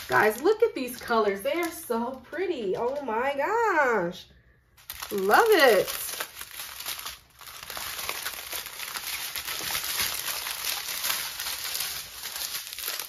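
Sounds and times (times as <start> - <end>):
plastic bags crinkling: 0.0 - 3.4, 4.8 - 13.0.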